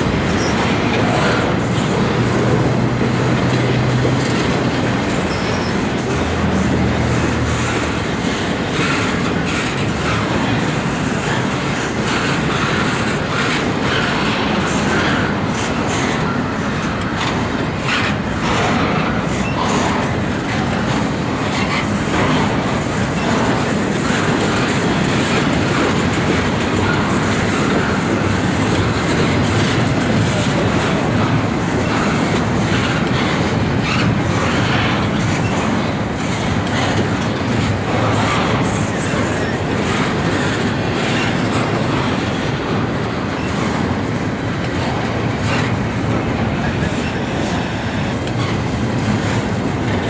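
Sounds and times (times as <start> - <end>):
rail cars clattering over joints: 0.0 - 50.0
train wheels rumbling on rail: 0.0 - 50.0.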